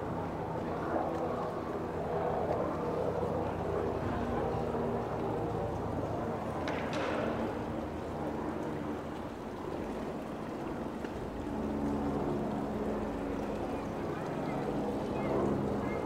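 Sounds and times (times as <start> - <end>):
outdoor town noise: 0.0 - 16.0.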